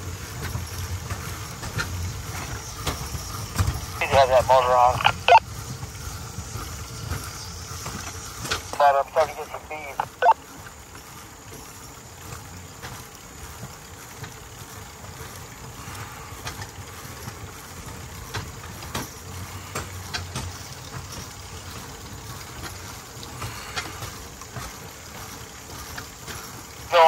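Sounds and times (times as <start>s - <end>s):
metal wheels rumbling on rails: 0.0s - 4.0s, 5.4s - 8.8s, 10.4s - 26.9s
wheels clicking on track joints: 0.0s - 4.1s, 5.1s - 8.8s, 10.0s - 26.9s.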